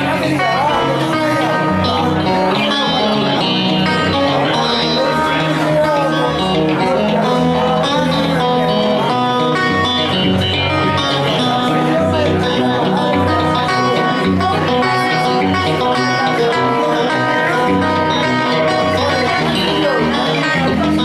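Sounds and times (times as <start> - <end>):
solo blues guitar: 0.0 - 21.0.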